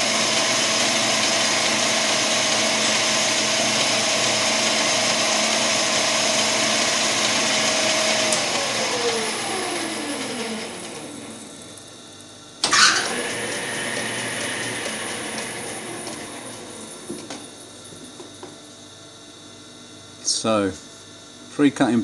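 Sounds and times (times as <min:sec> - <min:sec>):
lathe running: 0:00.0 - 0:12.0, 0:12.6 - 0:18.6.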